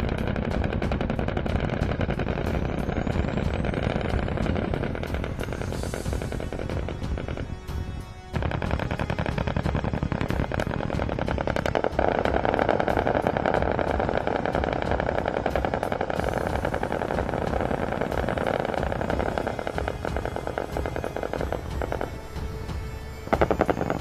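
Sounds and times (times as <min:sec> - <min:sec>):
background music: 0:00.0 - 0:24.0
rapid automatic gunfire: 0:00.0 - 0:24.0.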